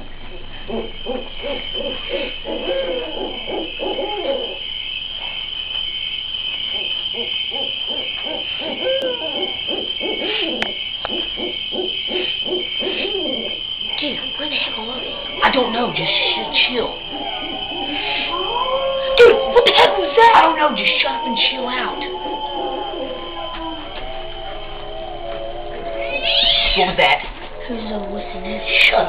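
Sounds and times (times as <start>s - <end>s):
steady high-pitched whine: 0.0s - 29.0s
rapid hooting calls: 0.1s - 29.0s.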